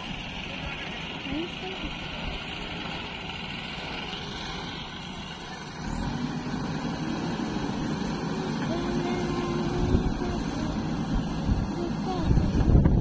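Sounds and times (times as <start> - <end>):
diesel engine labouring: 0.0 - 13.0.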